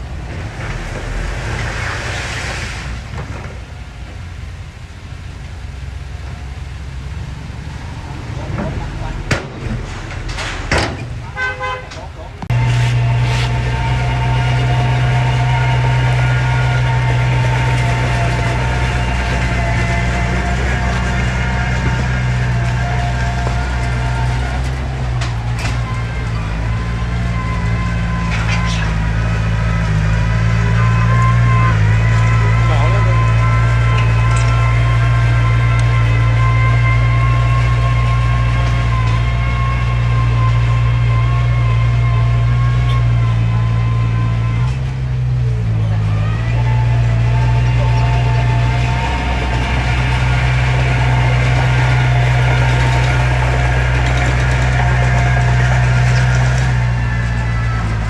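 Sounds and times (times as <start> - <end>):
diesel engine droning: 0.0 - 58.0
high whine: 0.0 - 58.0.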